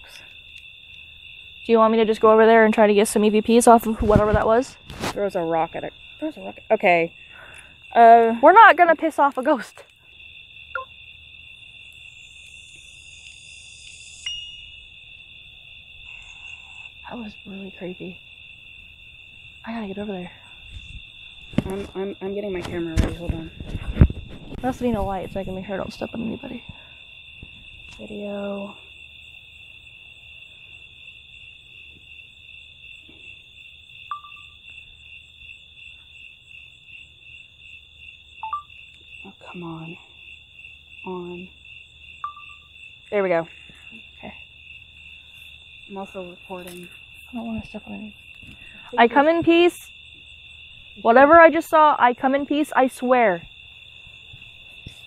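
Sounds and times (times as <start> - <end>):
crickets trilling: 0.0 - 55.0
faint high insect buzz: 0.0 - 55.0.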